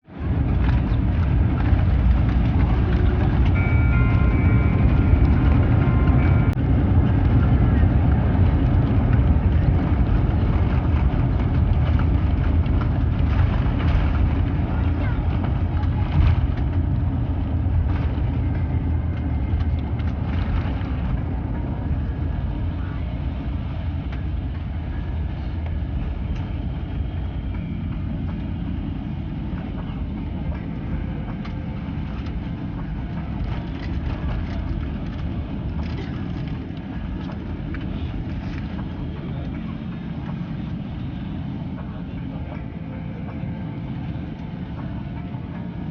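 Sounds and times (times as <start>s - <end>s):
airplane cabin rumble: 0.0s - 45.9s.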